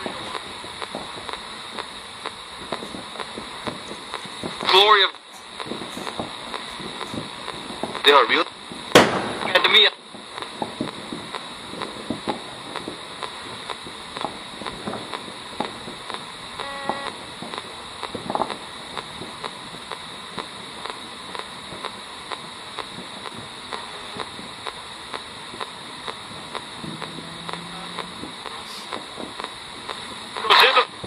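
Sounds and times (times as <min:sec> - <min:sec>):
radio static: 0:00.0 - 0:31.0
radio tuning clicks: 0:00.0 - 0:31.0
snatches of radio station audio: 0:00.0 - 0:31.0.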